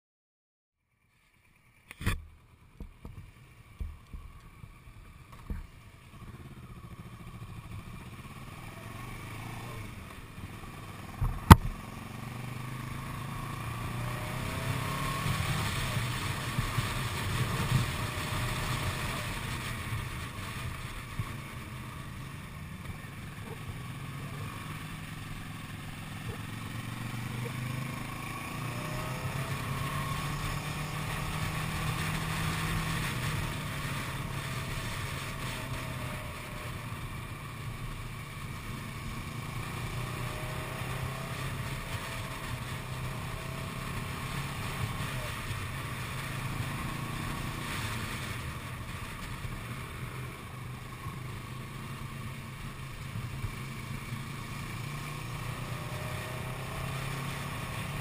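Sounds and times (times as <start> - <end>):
motorcycle engine running: 0.8 - 58.0
wind and road noise: 1.0 - 58.0.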